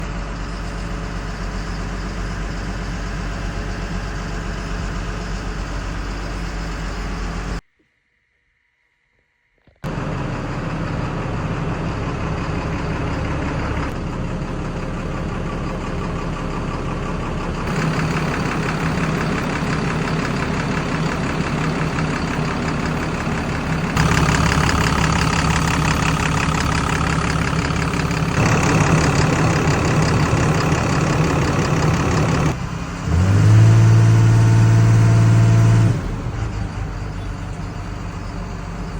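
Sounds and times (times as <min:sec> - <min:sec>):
diesel engine running: 0:00.0 - 0:07.6, 0:09.9 - 0:38.9.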